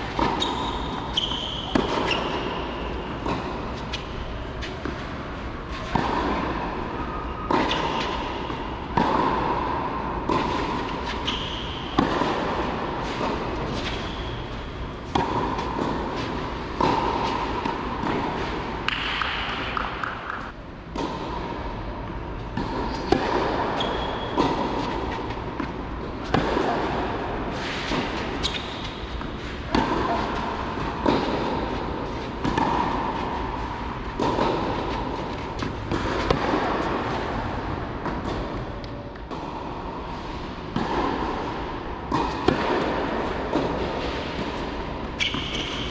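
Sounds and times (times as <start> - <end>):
tennis ball hit by racket: 0.0 - 21.6, 22.4 - 45.9.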